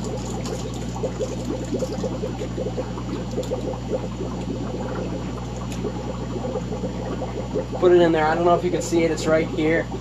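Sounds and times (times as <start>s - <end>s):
aquarium water bubbling: 0.0s - 10.0s
low steady hum: 0.0s - 10.0s.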